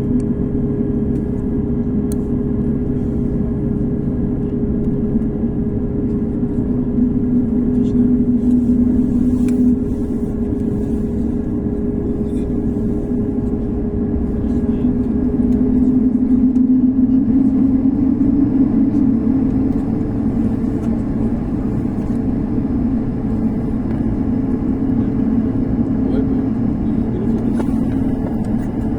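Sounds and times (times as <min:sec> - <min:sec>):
airliner engines droning: 0:00.0 - 0:28.9.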